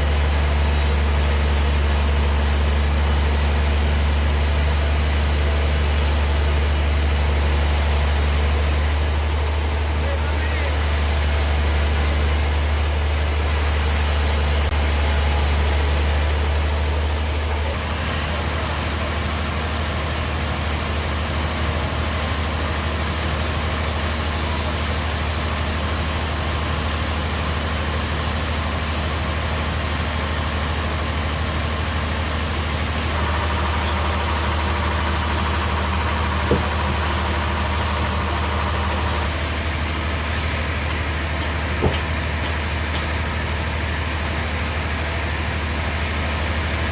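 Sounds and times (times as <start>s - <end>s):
bandsaw sawmill hum: 0.0s - 46.9s.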